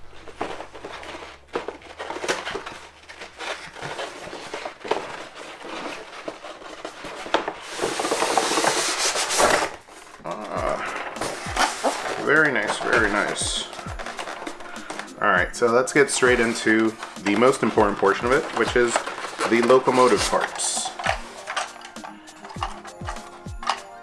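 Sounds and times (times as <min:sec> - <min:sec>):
cardboard scraping and knocks: 0:00.0 - 0:10.1, 0:11.0 - 0:15.1, 0:16.2 - 0:21.8.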